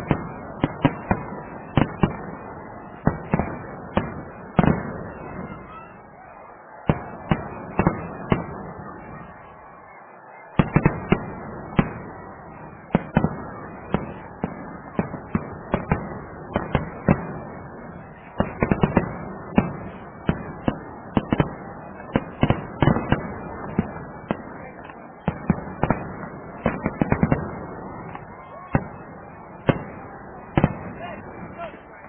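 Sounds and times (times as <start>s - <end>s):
fireworks banging: 0.0s - 32.0s.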